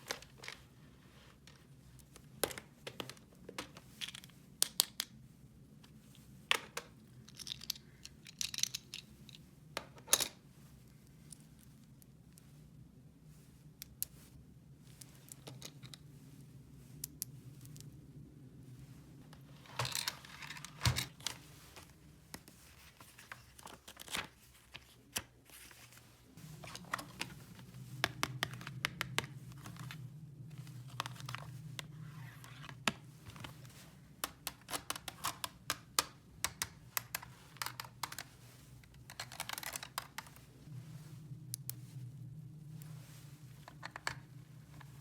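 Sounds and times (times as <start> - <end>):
faint low hum: 5.2 - 45.0.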